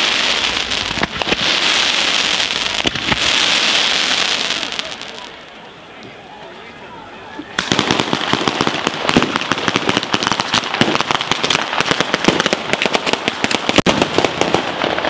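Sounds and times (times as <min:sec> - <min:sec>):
firecrackers going off: 0:00.0 - 0:05.5, 0:07.5 - 0:15.0.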